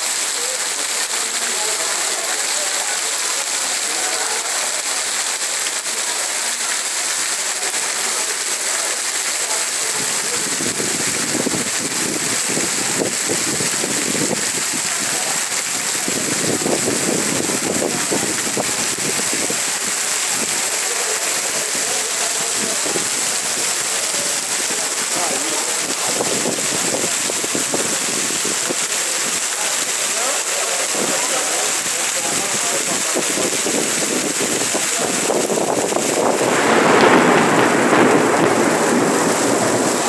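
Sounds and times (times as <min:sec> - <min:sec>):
heavy rain on stone paving: 0:00.0 - 0:40.0.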